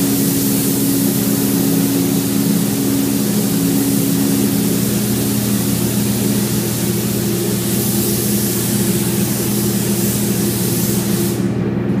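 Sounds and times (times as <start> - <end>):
spray gun air hiss: 0.0 - 11.6
machine hum: 0.0 - 12.0.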